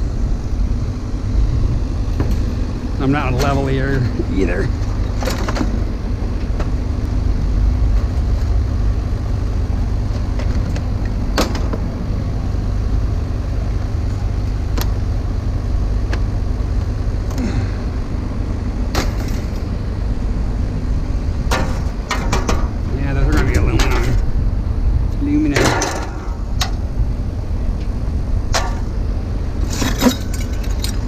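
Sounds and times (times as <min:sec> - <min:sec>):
faint steady hum: 0:00.0 - 0:31.0
low rumble: 0:00.0 - 0:31.0.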